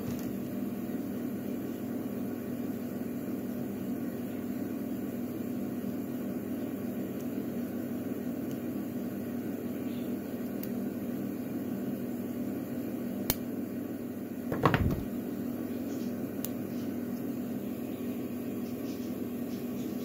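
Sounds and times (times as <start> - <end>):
background hum: 0.0 - 20.0.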